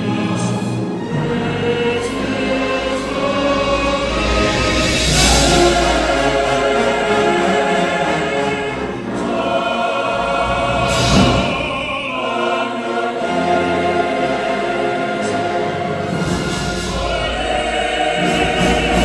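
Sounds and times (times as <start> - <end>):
choir singing chords: 0.0 - 19.0.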